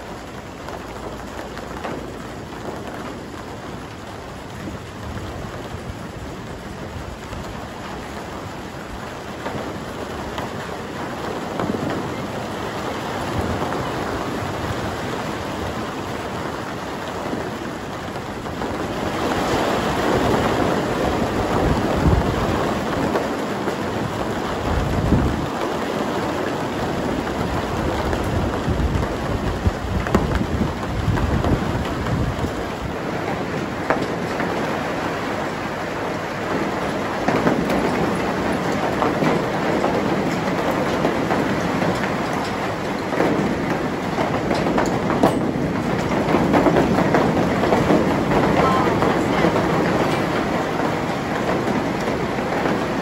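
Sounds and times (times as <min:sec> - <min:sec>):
heavy rain: 0:00.0 - 0:53.0
thunder rumbling: 0:00.0 - 0:53.0.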